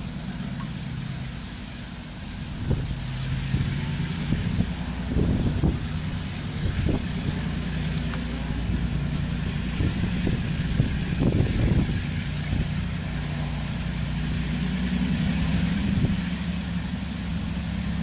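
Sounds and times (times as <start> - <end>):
diesel locomotive engines droning: 0.0 - 18.0
wind buffeting microphone: 2.2 - 18.0.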